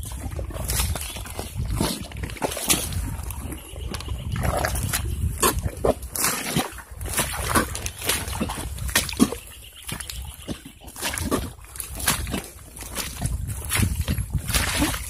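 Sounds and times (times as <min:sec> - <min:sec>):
footsteps squelching through mud: 0:00.0 - 0:15.0.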